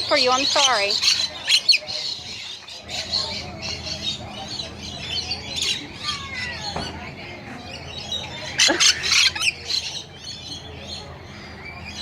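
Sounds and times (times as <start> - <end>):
lorikeets chattering and squawking: 0.0 - 12.0.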